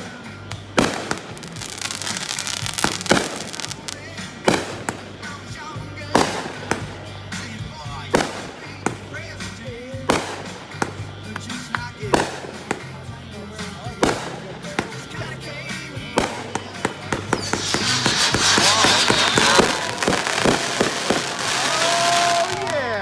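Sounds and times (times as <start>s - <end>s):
fireworks crackling: 0.0s - 23.0s
fireworks bangs: 0.8s - 23.0s.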